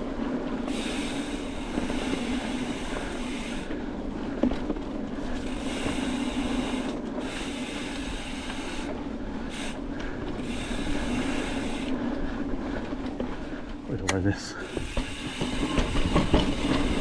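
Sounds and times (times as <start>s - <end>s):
bike tyres rolling over dirt: 0.0s - 17.0s.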